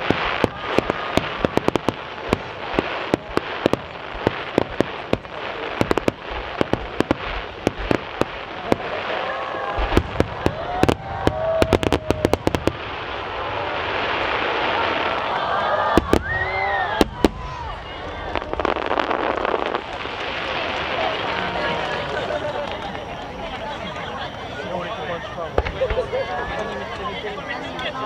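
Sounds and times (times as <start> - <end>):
fireworks bangs and pops: 0.0 - 24.5, 25.5 - 28.0.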